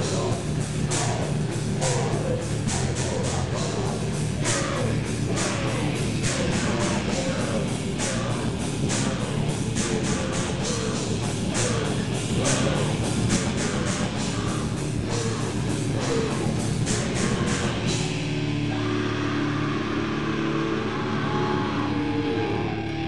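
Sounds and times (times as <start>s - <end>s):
fast rock drum beat: 0.0s - 19.8s
distorted electric guitars: 0.0s - 23.0s.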